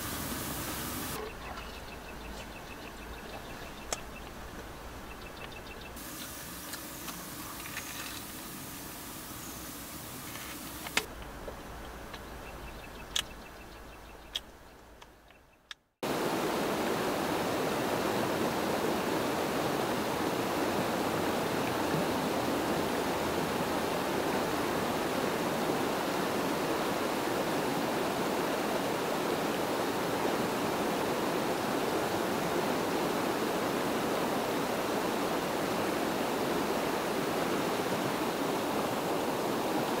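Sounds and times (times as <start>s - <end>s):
flowing river water: 0.0s - 14.2s, 16.0s - 40.0s.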